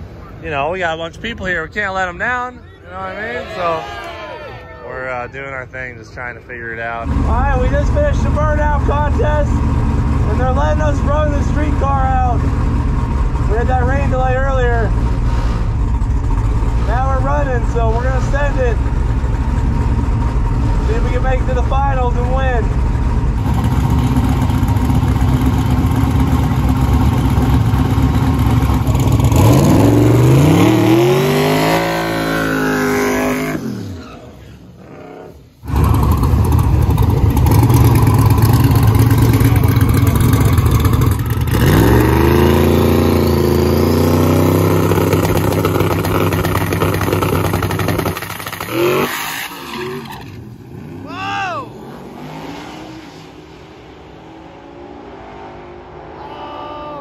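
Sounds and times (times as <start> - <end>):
drag car engine revving: 6.9 - 56.4.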